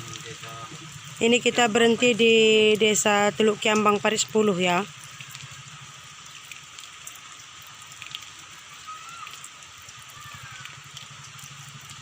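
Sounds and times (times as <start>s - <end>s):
drips and patters: 0.0s - 12.0s
light rain hissing: 0.0s - 12.0s.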